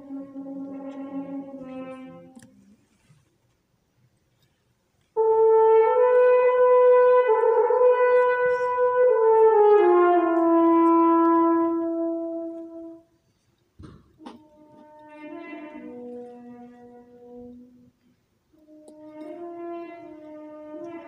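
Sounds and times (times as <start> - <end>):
french horn long held notes: 0.0 - 2.7, 5.2 - 13.1, 14.3 - 21.0.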